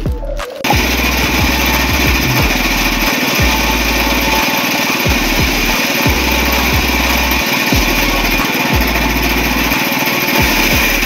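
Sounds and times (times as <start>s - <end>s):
small petrol engine running: 0.6s - 11.0s.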